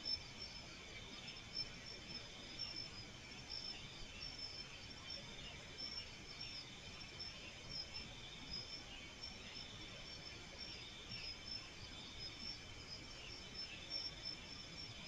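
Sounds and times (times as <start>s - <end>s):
crickets chirping: 0.0s - 15.0s
steady insect hum: 0.0s - 15.0s.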